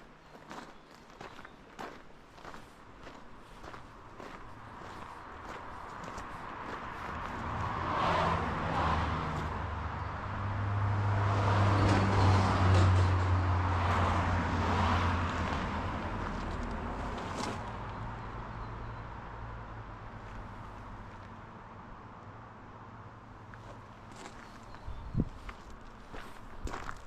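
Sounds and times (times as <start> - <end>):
engine hum and tyre noise: 0.0 - 27.0
vehicles passing on highway: 0.0 - 27.0.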